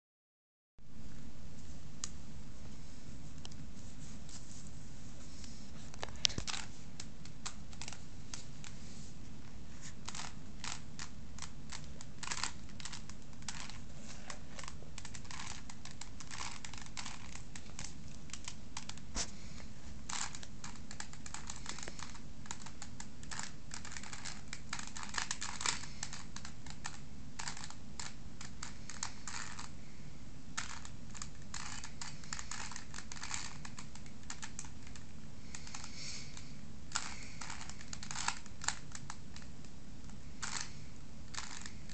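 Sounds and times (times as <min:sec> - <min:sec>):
low steady hum: 0:00.8 - 0:41.9
puzzle cube plastic clacking: 0:05.9 - 0:08.8, 0:09.9 - 0:29.8, 0:30.5 - 0:41.9.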